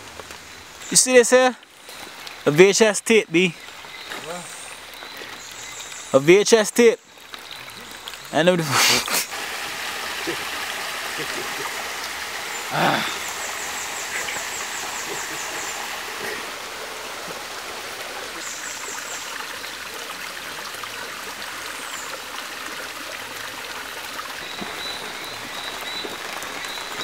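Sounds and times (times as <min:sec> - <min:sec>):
stream trickling over rocks: 0:00.0 - 0:27.0.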